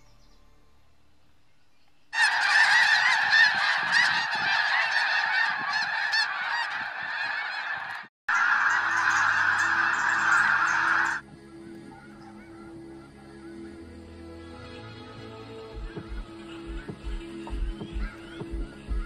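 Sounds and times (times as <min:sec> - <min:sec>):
geese honking: 0:02.2 - 0:19.0.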